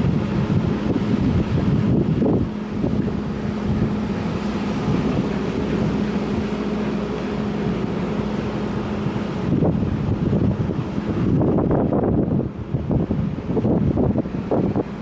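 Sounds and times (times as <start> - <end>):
low machine hum: 0.0 - 15.0
wind buffeting microphone: 0.0 - 15.0.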